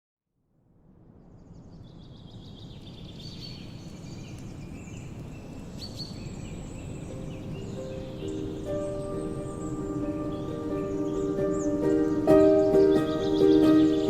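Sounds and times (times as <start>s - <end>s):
birds chirping: 1.5s - 14.0s.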